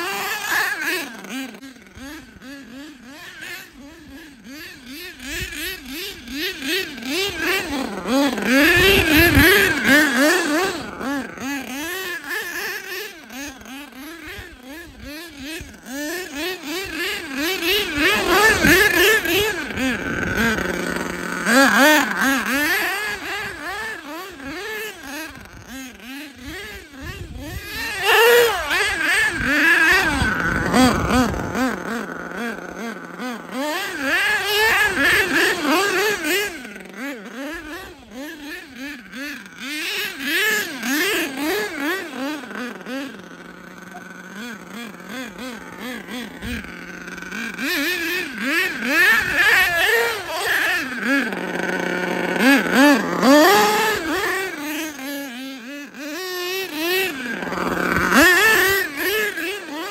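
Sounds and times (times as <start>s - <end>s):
model truck engine revving: 0.0s - 59.9s.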